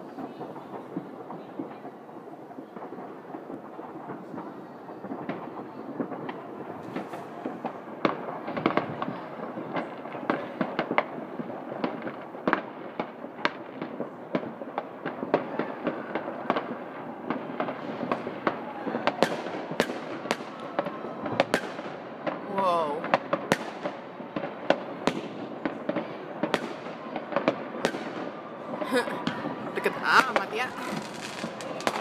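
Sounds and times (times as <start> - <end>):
distant fireworks crackling: 0.0 - 32.0
loud firecracker bangs: 0.0 - 32.0.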